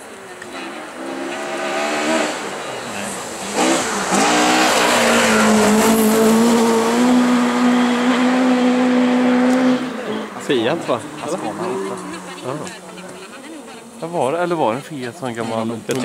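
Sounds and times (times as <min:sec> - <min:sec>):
rally car engine at high revs: 0:00.4 - 0:13.3.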